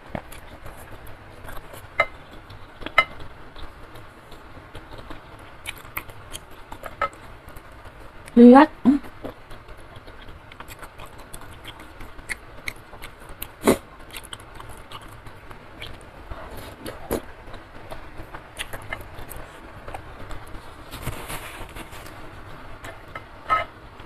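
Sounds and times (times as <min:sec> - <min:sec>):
chewing noodles: 0:00.1 - 0:08.0, 0:09.2 - 0:23.8.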